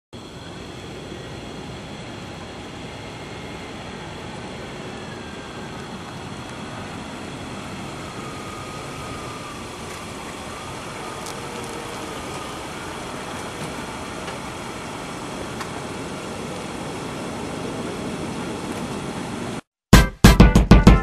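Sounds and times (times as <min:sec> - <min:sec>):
car engine running: 0:00.2 - 0:19.5.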